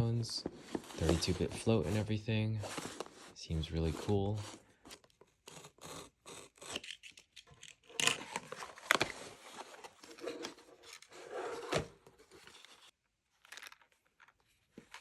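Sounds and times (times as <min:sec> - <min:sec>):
packaging scraping and tearing: 0:00.1 - 0:02.0, 0:02.6 - 0:12.9.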